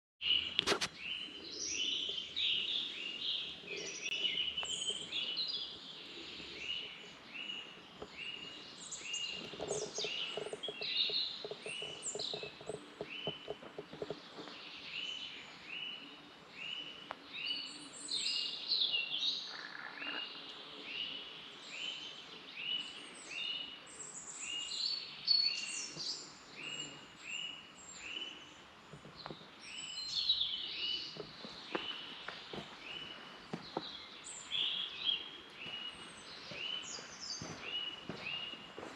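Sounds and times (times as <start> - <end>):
birds singing: 0.2 - 38.9.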